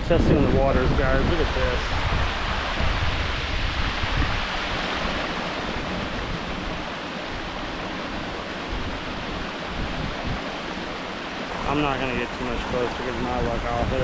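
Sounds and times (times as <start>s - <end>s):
waterfall rushing: 0.0s - 14.0s
wind buffeting microphone: 0.0s - 14.0s.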